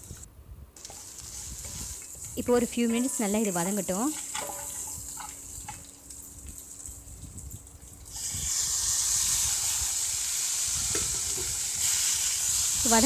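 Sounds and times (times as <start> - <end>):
tomatoes sizzling in hot oil: 0.8 - 13.0.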